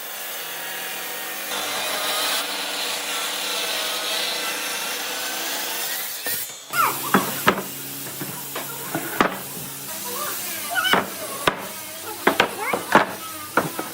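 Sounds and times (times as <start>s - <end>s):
power tool grinding wood: 0.0s - 13.9s.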